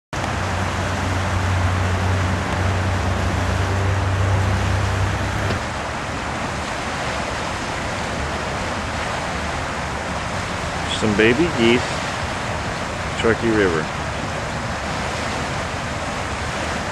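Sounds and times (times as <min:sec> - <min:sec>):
city traffic: 0:00.1 - 0:16.9
river water rushing: 0:00.2 - 0:16.9.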